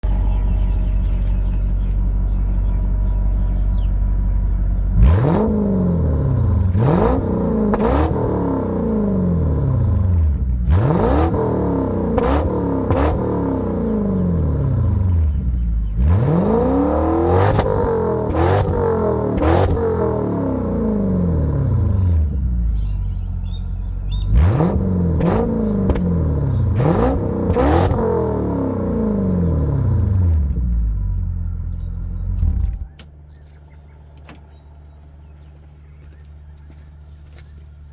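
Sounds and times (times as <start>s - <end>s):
car engine exhaust revving: 0.0s - 33.0s.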